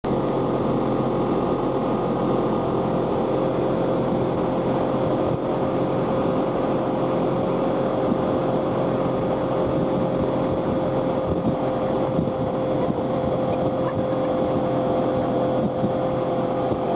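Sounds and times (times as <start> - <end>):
outboard motor drone: 0.0 - 16.9
water and wind rushing: 0.1 - 16.9.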